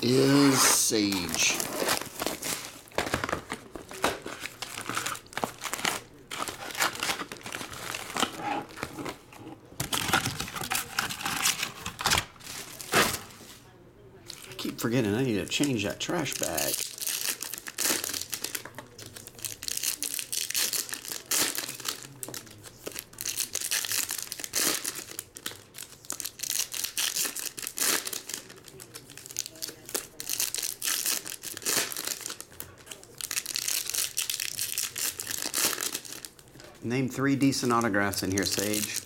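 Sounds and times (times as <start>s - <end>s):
foil wrappers tearing and crinkling: 0.0s - 9.2s, 9.8s - 13.4s, 15.6s - 36.5s, 37.5s - 39.0s.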